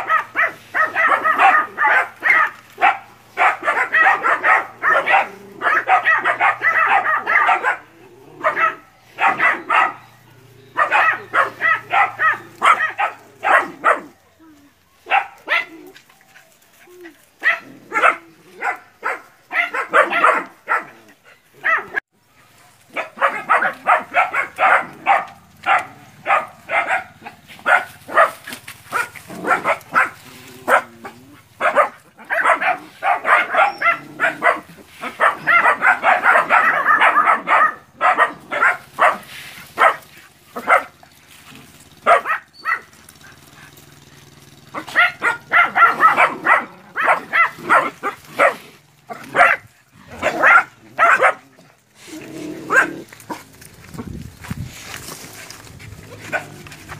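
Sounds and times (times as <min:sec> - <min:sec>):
puppies barking and yapping: 0:00.0 - 0:56.9.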